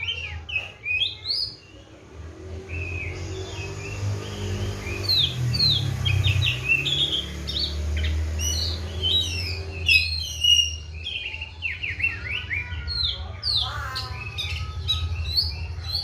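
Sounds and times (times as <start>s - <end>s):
bird singing whistled notes: 2.6s - 16.0s.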